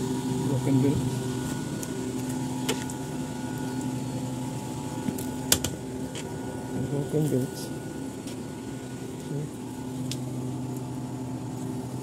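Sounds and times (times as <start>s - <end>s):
air-conditioning equipment humming: 0.0s - 12.0s.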